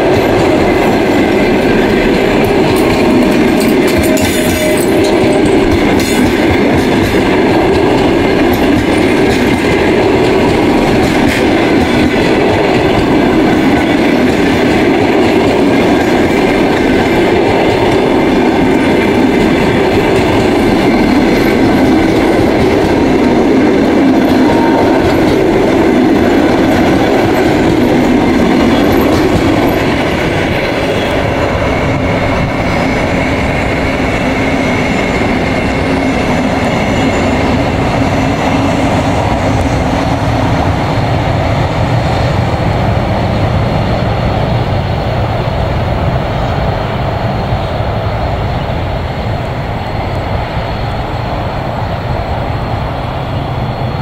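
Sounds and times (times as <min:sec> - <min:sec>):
train running past on rails: 0:00.0 - 0:54.0.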